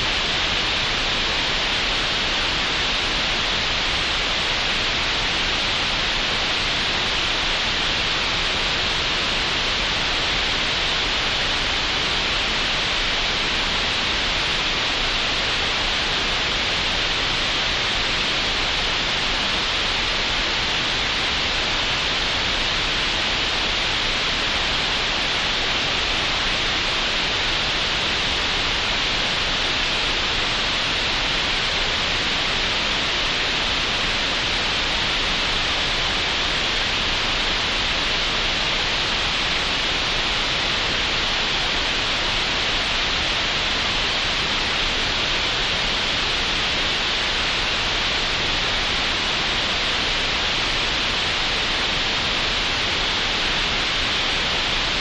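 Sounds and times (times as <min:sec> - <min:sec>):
green noise hiss: 0:00.0 - 0:55.0.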